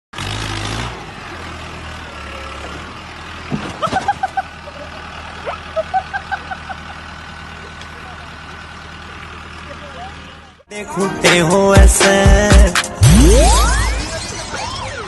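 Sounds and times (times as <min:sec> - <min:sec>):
tractor diesel engine humming: 0:00.2 - 0:15.0.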